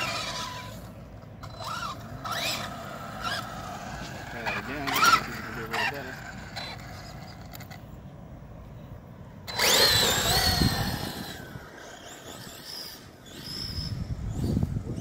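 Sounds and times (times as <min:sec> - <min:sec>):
electric motor whining: 0:00.0 - 0:07.8, 0:09.4 - 0:15.0.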